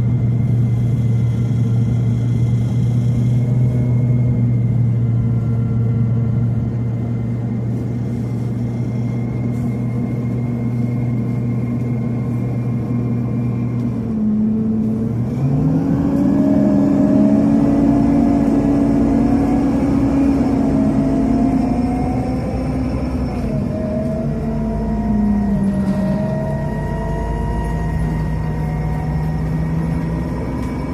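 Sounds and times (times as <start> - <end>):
bus engine accelerating: 0.0 - 30.9.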